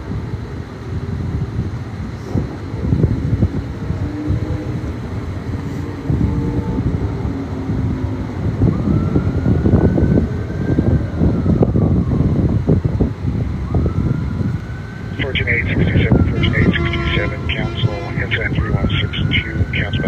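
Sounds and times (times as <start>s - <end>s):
street traffic rumble: 0.0s - 20.0s
wind buffeting microphone: 0.0s - 20.0s
distant siren wail: 0.4s - 20.0s.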